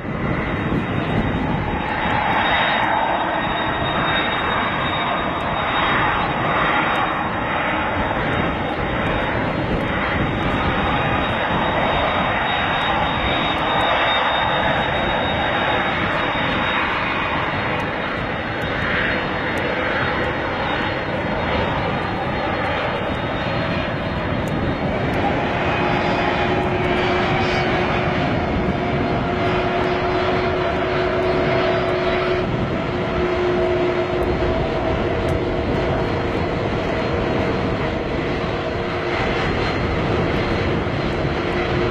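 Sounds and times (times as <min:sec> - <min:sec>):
aircraft engines rushing: 0:00.0 - 0:41.9
high engine whine: 0:00.0 - 0:41.9.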